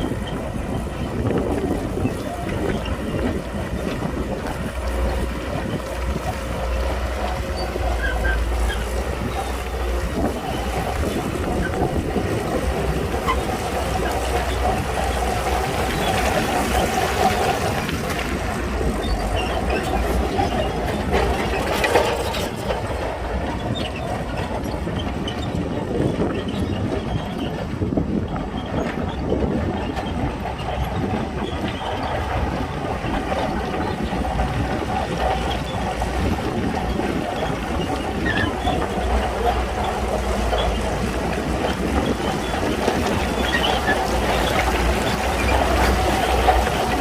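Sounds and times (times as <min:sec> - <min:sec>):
bulldozer diesel engine running: 0:00.0 - 0:47.0
steel tracks rattling and clanking: 0:00.0 - 0:47.0.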